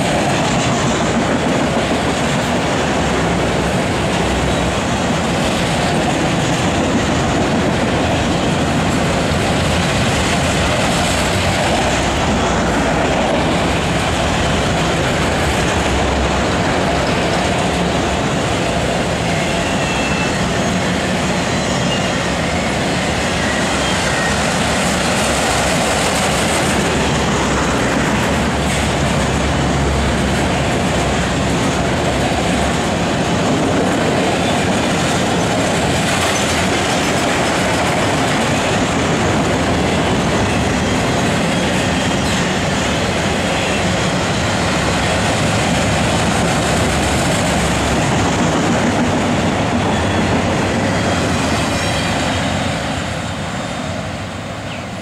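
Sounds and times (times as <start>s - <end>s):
freight cars rolling on rails: 0.0s - 55.0s.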